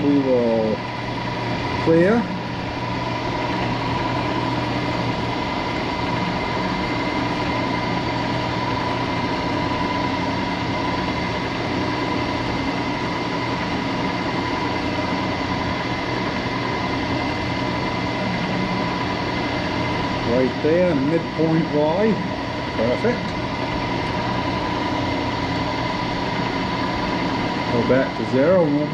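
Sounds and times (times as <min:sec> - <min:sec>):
milling machine spindle whine: 0:00.0 - 0:28.9.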